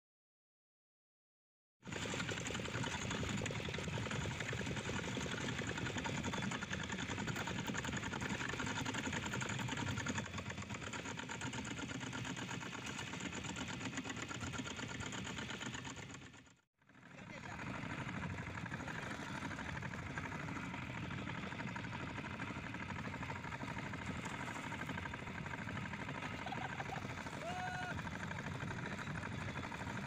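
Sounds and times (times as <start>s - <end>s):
boat engine rattling: 1.9s - 30.0s.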